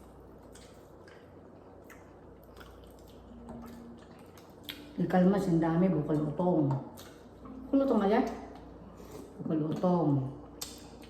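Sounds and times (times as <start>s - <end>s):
chewing food: 0.0s - 5.2s, 6.1s - 11.0s.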